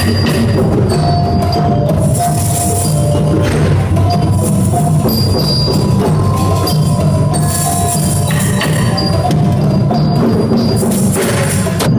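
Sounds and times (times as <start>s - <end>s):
hand drums playing: 0.0s - 11.9s.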